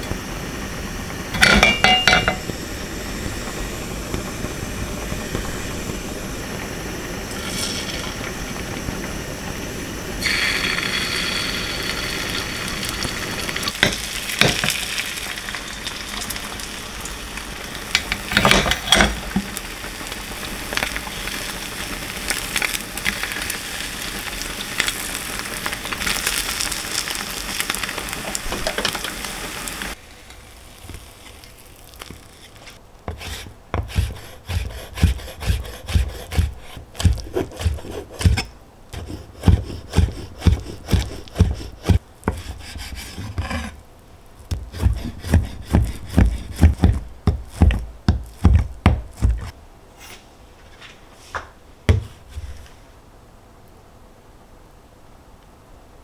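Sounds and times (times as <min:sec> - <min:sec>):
egg sizzling in oil: 0:00.0 - 0:49.6.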